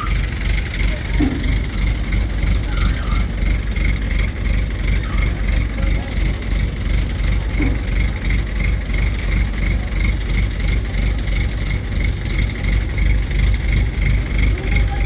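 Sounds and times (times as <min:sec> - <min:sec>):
diesel machinery rumbling: 0:00.0 - 0:15.0
pulsing high-pitched squeal: 0:00.0 - 0:15.0.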